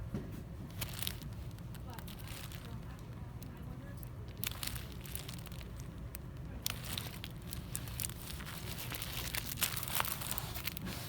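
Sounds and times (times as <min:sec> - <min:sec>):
steady low hum: 0:00.0 - 0:11.0
plastic packaging crinkling: 0:00.7 - 0:11.0.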